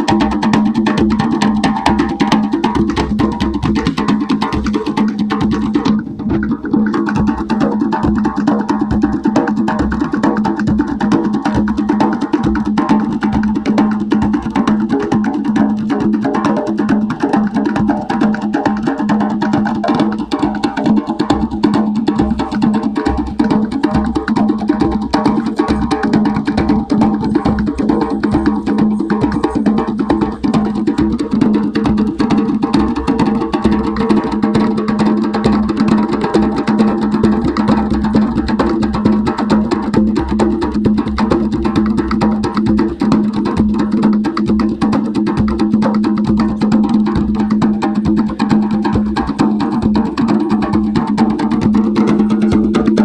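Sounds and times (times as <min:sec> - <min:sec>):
hand drums playing together: 0:00.0 - 0:53.0.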